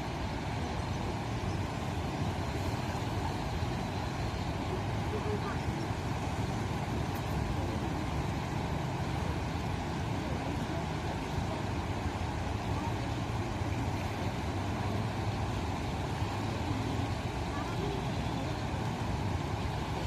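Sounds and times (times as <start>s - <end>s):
floodwater rushing through weir: 0.0s - 20.0s.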